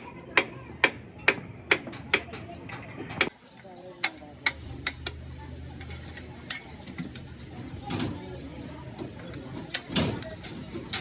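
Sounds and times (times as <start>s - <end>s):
sharp metallic clicks and knocks: 0.4s - 5.2s, 5.8s - 8.2s, 9.0s - 11.0s.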